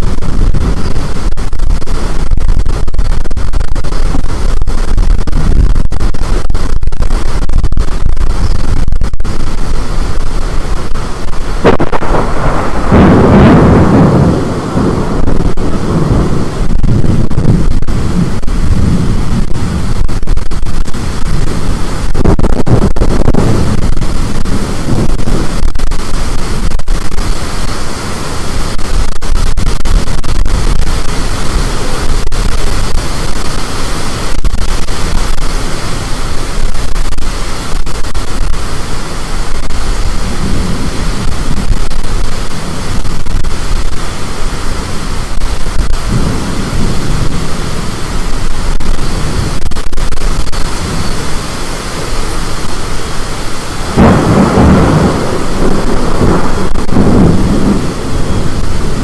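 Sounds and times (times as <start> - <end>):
storm wind on microphone: 0.0 - 59.0.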